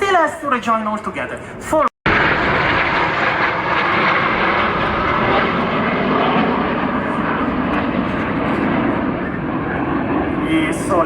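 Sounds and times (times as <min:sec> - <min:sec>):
jet aircraft flying over: 0:01.0 - 0:11.0.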